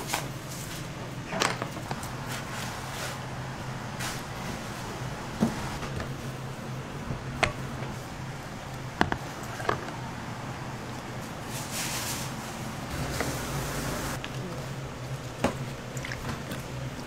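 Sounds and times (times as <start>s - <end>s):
low hum of kitchen room tone: 0.0s - 17.0s.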